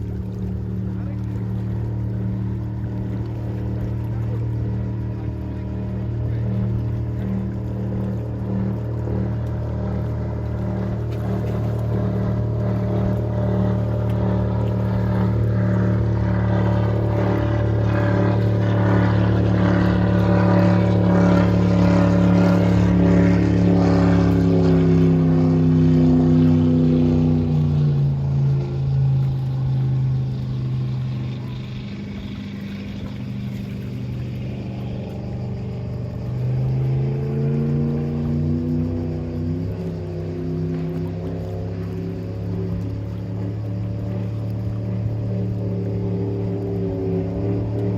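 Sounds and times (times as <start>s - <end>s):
speedboat engine revving: 0.0s - 47.9s.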